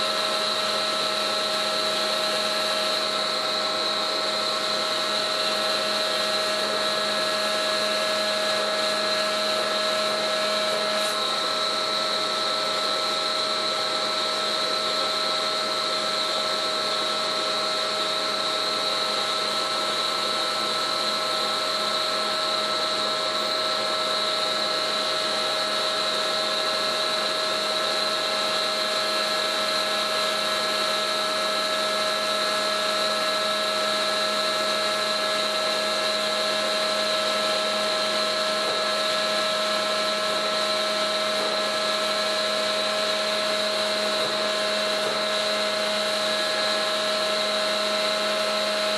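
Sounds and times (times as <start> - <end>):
hydraulic pump whining: 0.0 - 48.9.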